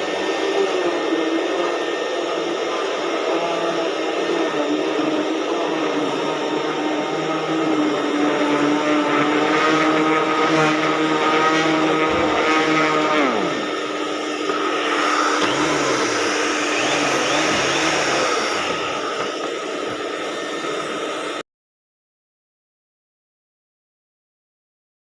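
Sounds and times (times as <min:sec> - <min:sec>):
vacuum cleaner running: 0:00.0 - 0:21.4.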